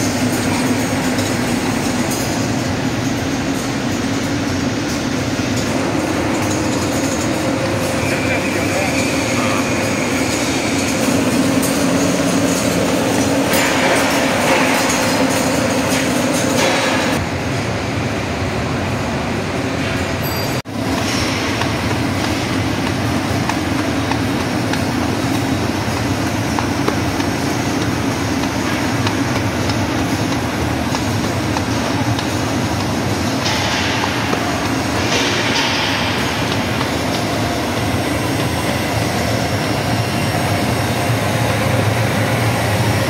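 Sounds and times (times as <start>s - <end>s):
machinery rumble and clatter: 0.0s - 43.0s.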